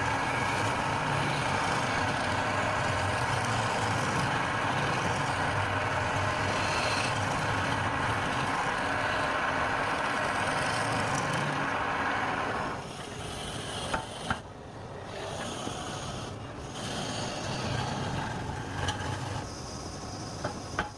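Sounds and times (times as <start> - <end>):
wood lathe cutting wood: 0.0 - 14.4, 15.1 - 19.5.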